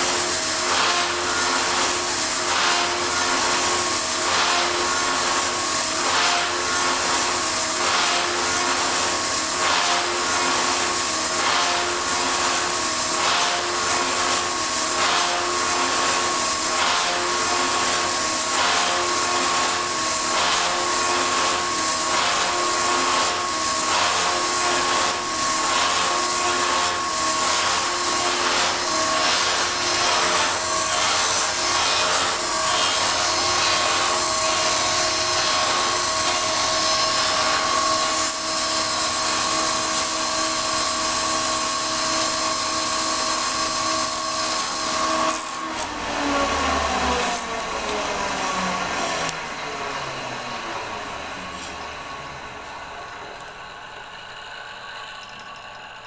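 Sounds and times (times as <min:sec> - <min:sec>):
milling machine cutting wood: 0:00.0 - 0:56.0.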